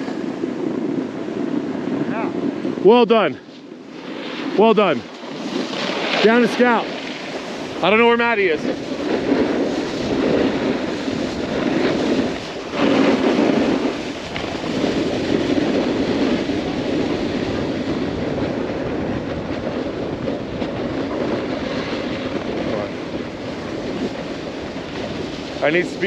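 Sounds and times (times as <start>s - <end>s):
snowboard scraping over snow: 0.0s - 26.0s
wind on microphone: 0.0s - 26.0s.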